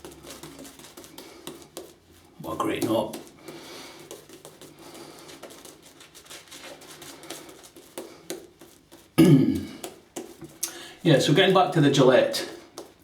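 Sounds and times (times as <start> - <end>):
shaving brush swishing lather: 0.0 - 9.2, 9.8 - 13.0.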